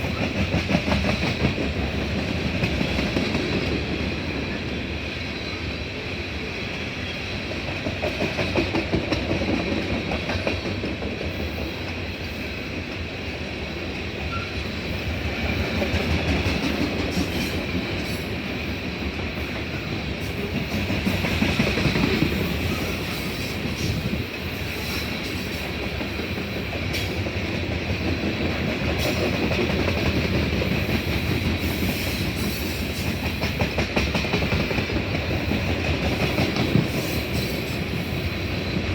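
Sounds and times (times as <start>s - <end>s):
train wheels clacking on rail joints: 0.0s - 4.1s, 6.7s - 13.1s, 13.9s - 38.9s
train rumble: 0.0s - 38.9s.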